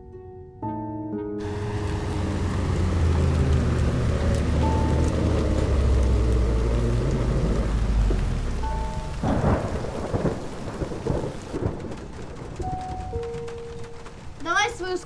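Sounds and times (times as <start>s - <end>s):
car engine rumble: 1.4s - 14.4s
heavy rain pattering: 1.4s - 15.0s.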